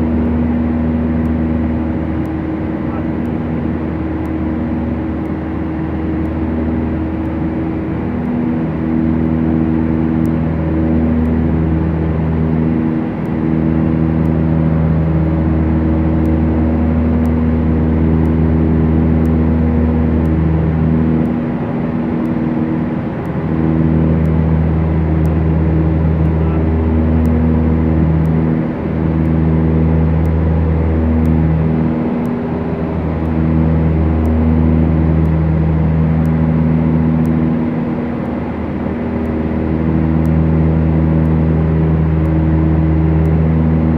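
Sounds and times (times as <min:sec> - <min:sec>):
propeller plane engines droning: 0:00.0 - 0:43.9.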